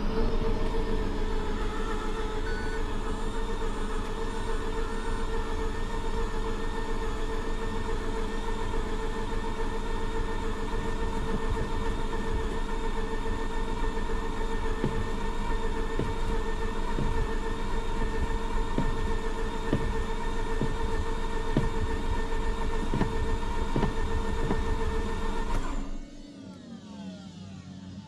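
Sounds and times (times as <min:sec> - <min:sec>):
starter motor cranking engine: 0:00.0 - 0:26.0.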